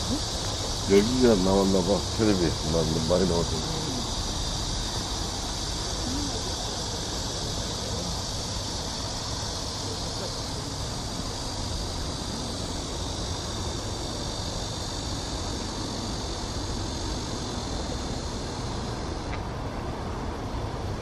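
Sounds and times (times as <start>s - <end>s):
cicada chorus drone: 0.0s - 21.0s
low steady rumble: 0.0s - 21.0s.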